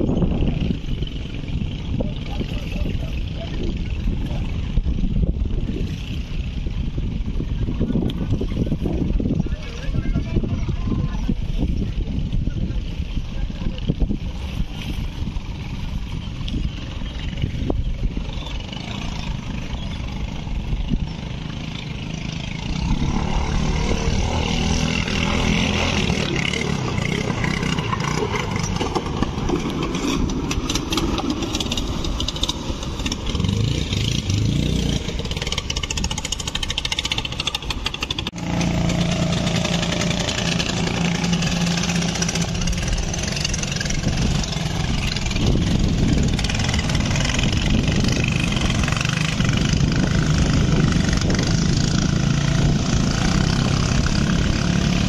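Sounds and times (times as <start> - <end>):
racing boat engines speeding past: 8.3 - 55.0.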